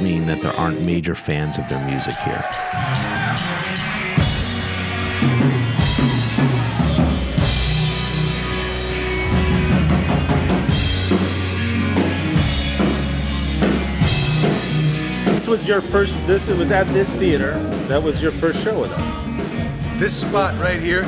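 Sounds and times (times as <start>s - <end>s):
rock band playing live: 2.4s - 21.0s.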